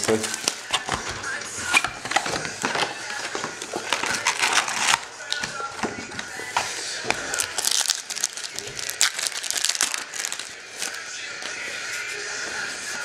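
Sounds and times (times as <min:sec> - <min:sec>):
plastic and foil wrapping crinkling: 0:00.0 - 0:13.0.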